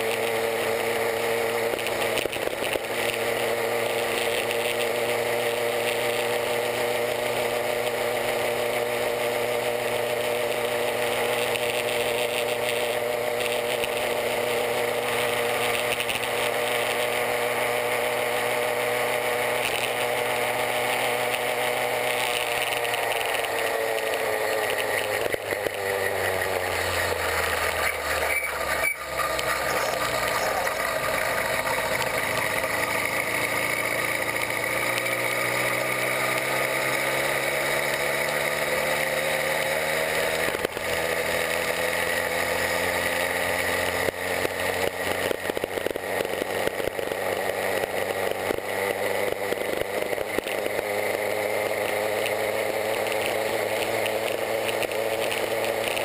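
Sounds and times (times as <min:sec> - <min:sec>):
two-stroke bicycle engine running: 0:00.0 - 0:56.0.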